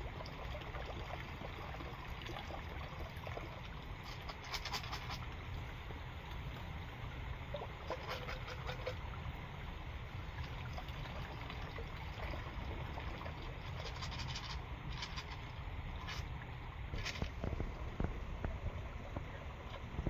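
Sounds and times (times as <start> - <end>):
steady background hiss: 0.0 - 20.0
water trickling and splashing: 0.0 - 20.0.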